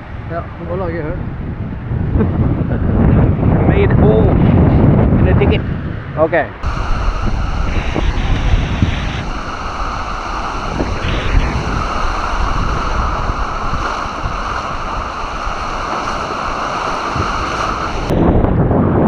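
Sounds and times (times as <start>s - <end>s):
wind and waves rushing: 0.0s - 19.0s
wind buffeting microphone: 0.0s - 19.0s.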